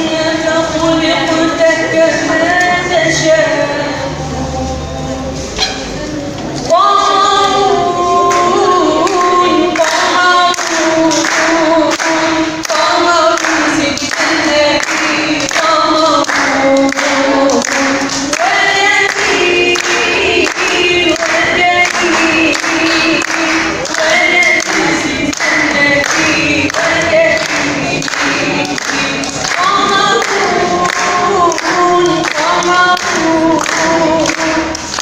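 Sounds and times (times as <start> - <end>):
choir-like vocal backing: 0.0 - 35.0.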